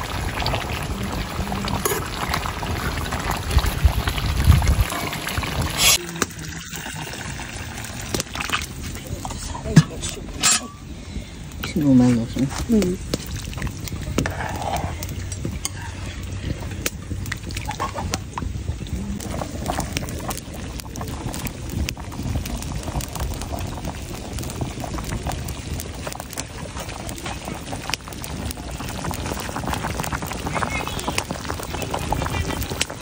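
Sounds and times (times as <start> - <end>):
food bubbling in a pot: 0.0 - 33.0.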